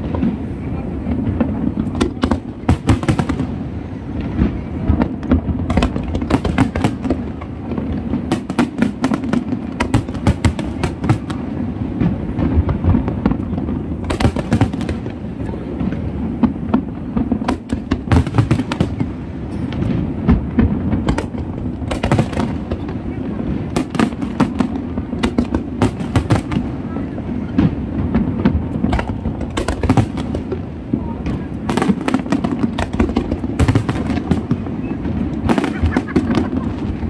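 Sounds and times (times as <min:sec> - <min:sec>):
firework shells bursting and crackling: 0:00.0 - 0:37.0.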